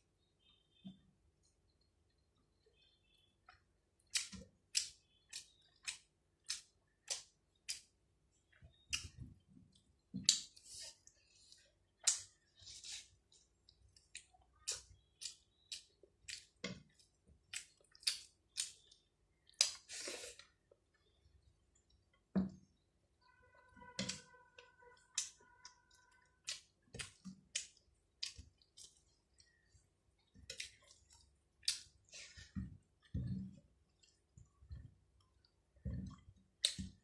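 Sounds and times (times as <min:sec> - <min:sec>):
person chewing food: 0:03.4 - 0:37.0.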